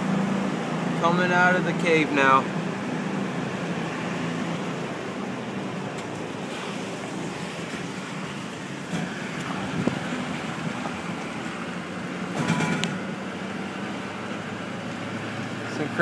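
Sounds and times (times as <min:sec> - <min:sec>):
low engine hum: 0:00.0 - 0:16.0
tyres hissing on road: 0:00.0 - 0:16.0.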